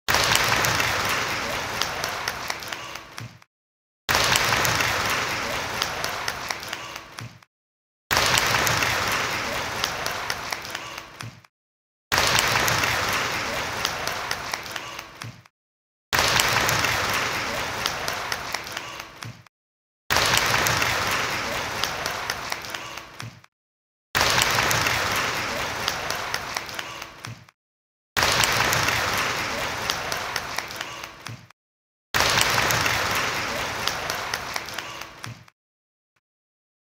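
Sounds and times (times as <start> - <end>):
people clapping: 0.1 - 3.5, 4.1 - 7.5, 8.1 - 11.5, 12.1 - 15.5, 16.1 - 19.5, 20.1 - 23.5, 24.2 - 27.6, 28.2 - 31.6, 32.2 - 35.6.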